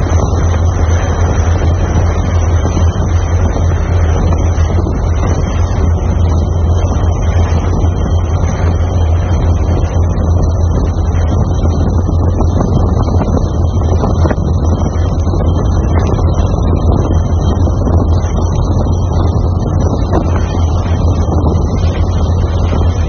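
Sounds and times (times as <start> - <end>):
boat engine droning: 0.0 - 23.0
wind on microphone: 0.0 - 23.0.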